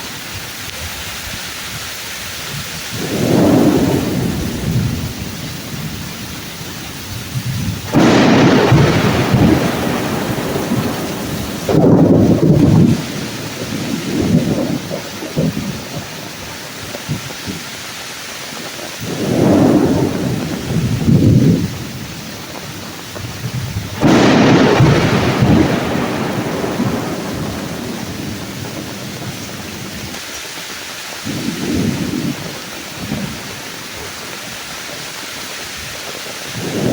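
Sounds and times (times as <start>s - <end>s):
heavy rain on trees: 0.0s - 36.9s
thunder rolling: 2.4s - 30.2s, 31.2s - 35.1s, 35.8s - 36.9s
loud thunder clap: 2.6s - 17.7s, 18.6s - 30.2s, 31.2s - 34.4s, 36.4s - 36.9s.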